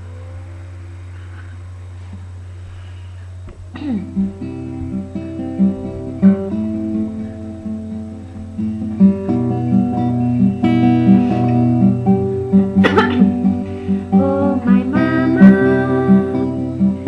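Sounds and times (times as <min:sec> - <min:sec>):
fingerpicked acoustic guitar: 0:00.0 - 0:17.0.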